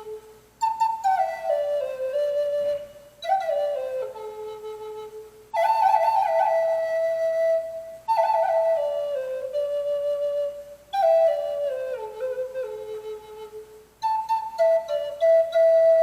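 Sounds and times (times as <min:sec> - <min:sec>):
flute playing slow melody: 0:00.0 - 0:16.0.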